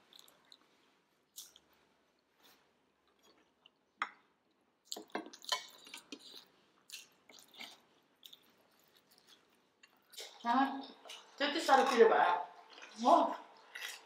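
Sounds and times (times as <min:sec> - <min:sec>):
quiet chewing: 0:00.0 - 0:12.0, 0:12.6 - 0:14.0.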